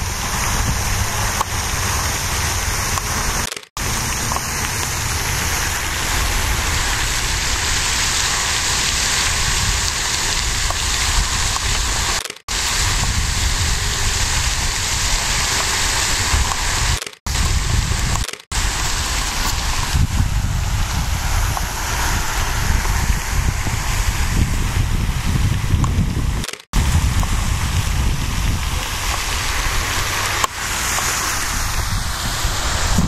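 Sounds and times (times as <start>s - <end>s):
fountain spray splashing: 0.0s - 33.0s
wind rumbling on microphone: 0.0s - 33.0s.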